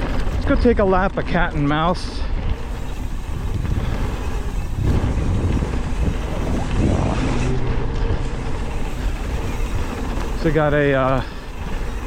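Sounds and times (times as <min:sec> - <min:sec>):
bike tyres rumbling on dirt: 0:00.0 - 0:12.0
wind buffeting microphone: 0:00.0 - 0:12.0.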